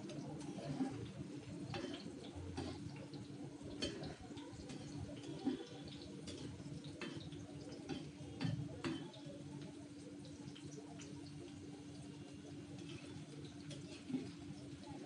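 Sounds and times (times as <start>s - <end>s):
curry bubbling in a pan: 0.0s - 15.0s.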